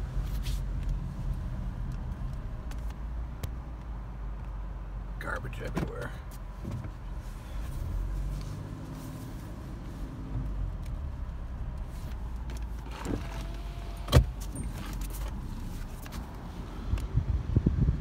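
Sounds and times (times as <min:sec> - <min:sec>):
car cabin rumble: 0:00.0 - 0:18.0.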